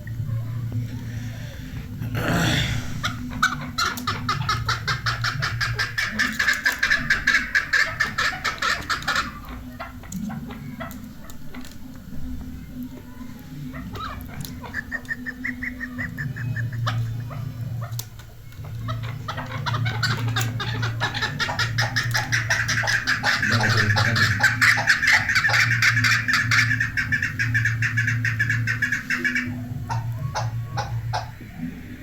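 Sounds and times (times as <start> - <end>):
partridge clucking calls: 0.0 - 32.0
steady low hum: 0.0 - 32.0.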